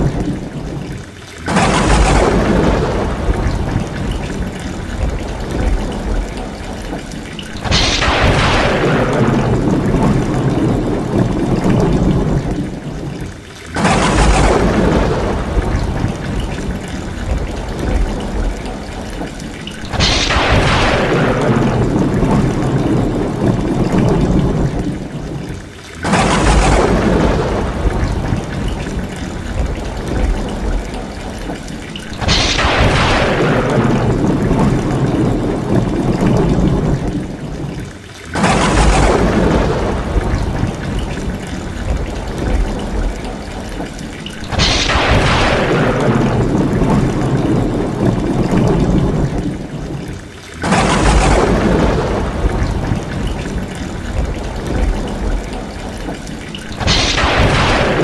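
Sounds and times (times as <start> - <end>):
rainwater pouring off a roof: 0.0 - 58.0
thunder rolling: 0.0 - 58.0.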